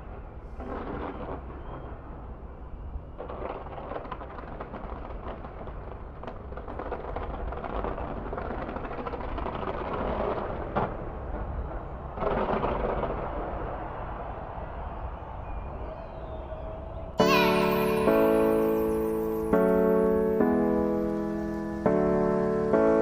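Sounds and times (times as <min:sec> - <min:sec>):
distant fireworks booming and crackling: 0:00.0 - 0:23.0.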